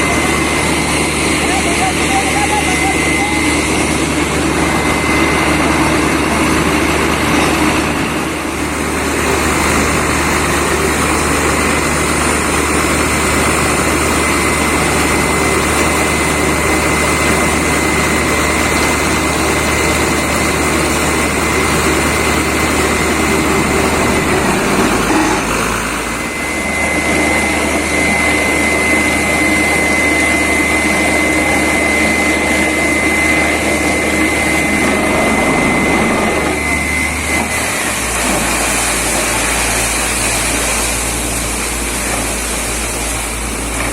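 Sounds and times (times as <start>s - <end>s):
drilling rig and compressor whine: 0.0s - 43.9s.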